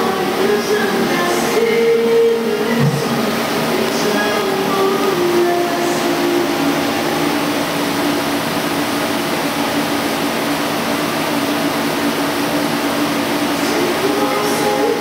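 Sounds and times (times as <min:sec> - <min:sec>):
coolant spray hiss: 0:00.0 - 0:15.0
low machine hum: 0:00.0 - 0:15.0.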